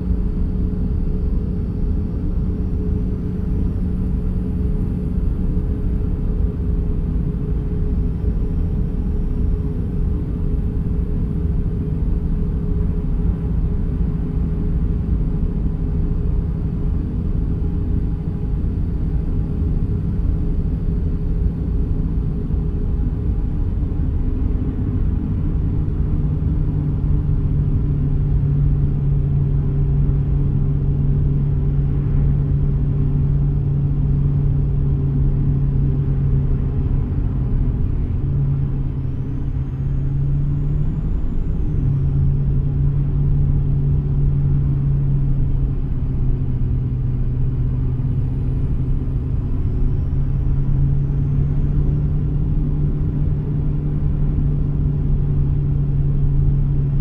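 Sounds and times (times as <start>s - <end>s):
car engine and road noise drone: 0.0s - 57.0s.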